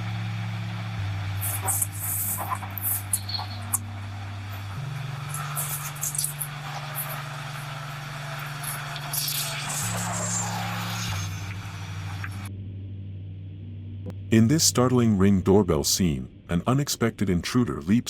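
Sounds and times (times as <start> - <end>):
low droning background music: 0.0 - 18.0.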